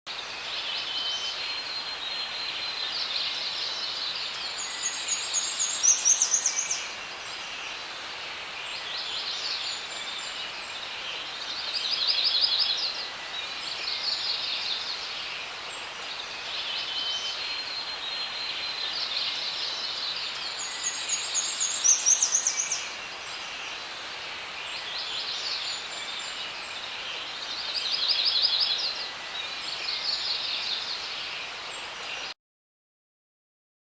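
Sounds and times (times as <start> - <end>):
background hiss: 0.1 - 32.3
songbirds chirping and trilling: 0.1 - 32.4.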